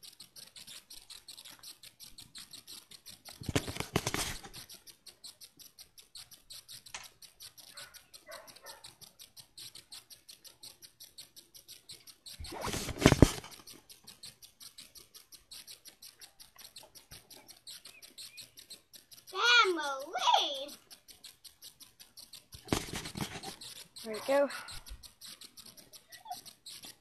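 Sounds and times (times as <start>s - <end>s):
rapid even ticking: 0.0s - 27.0s.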